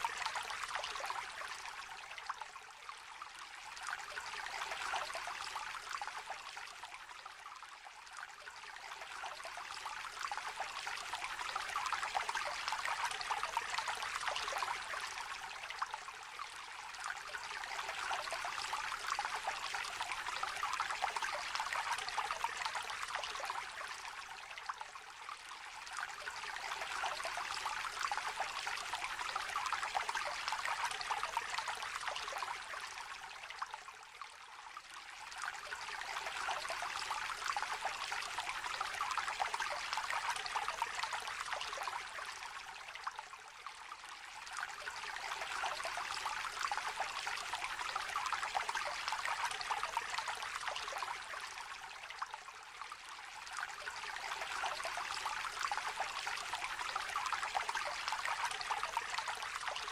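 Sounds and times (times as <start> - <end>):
brook babbling over stones: 0.0 - 59.9.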